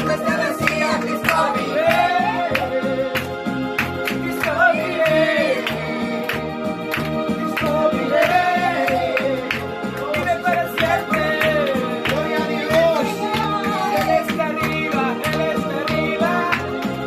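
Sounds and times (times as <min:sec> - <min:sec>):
music with singing over a beat: 0:00.0 - 0:17.0.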